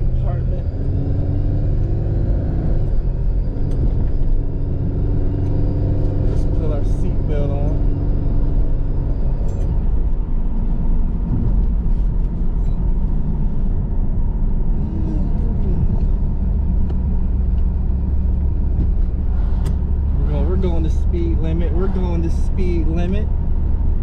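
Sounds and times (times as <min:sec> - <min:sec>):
car engine low drone: 0:00.0 - 0:24.0
road and tyre noise: 0:00.0 - 0:24.0.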